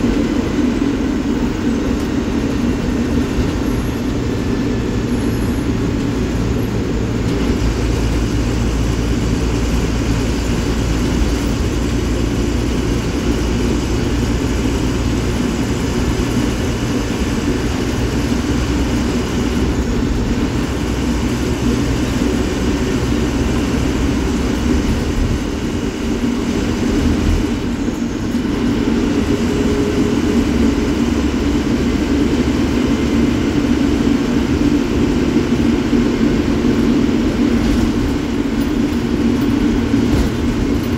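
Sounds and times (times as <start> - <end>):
bus diesel engine droning: 0.0 - 40.9.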